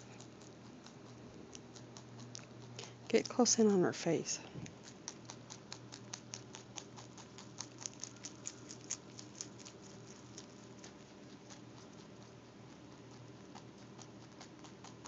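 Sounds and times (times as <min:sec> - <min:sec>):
rabbit chewing crunchily: 0:00.0 - 0:15.0.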